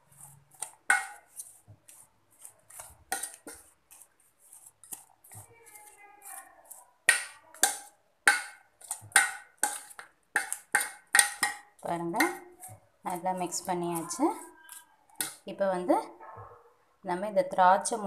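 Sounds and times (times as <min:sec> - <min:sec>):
spoon scraping a bowl: 0:00.0 - 0:15.4.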